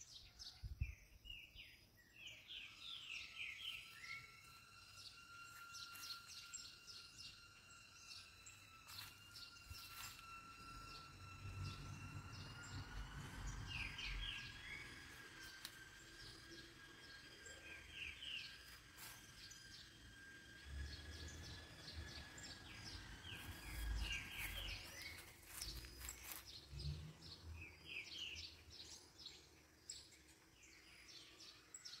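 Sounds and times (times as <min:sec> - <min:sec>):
faint high whine: 0:00.0 - 0:32.0
small birds chirping: 0:00.0 - 0:32.0.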